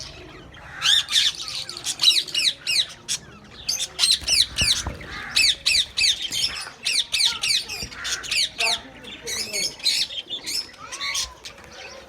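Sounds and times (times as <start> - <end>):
budgerigars calling: 0.0 - 11.9.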